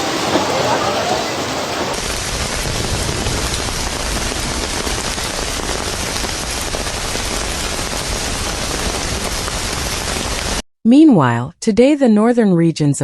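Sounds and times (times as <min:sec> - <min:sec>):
heavy rain pelting down: 0:00.0 - 0:10.6.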